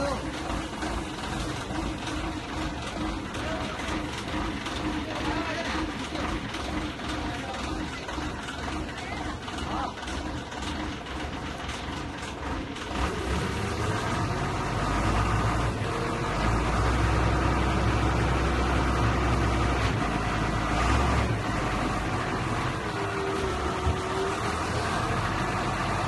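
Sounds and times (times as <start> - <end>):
forklift engine running: 0.0 - 26.0.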